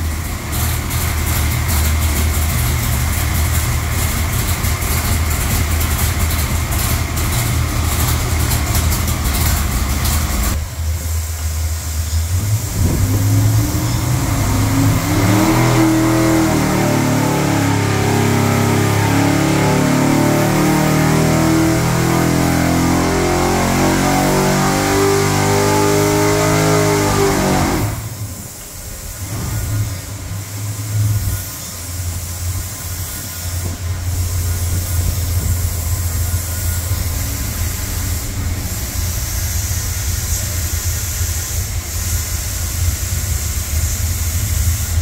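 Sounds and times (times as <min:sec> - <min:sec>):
engine revving on a dyno: 0:00.0 - 0:45.0.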